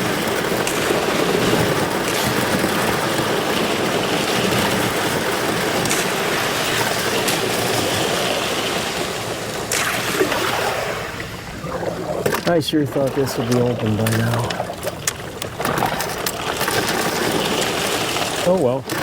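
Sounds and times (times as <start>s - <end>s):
ice clicks and knocks: 0.0s - 9.1s, 12.2s - 19.0s
slush ice scraping canoe hull: 0.0s - 19.0s.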